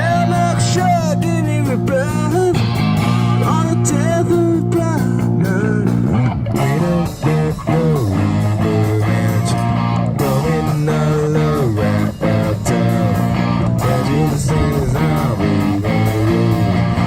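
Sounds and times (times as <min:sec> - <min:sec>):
bass guitar line: 0:00.0 - 0:17.0
electric guitar bending notes: 0:00.0 - 0:17.0.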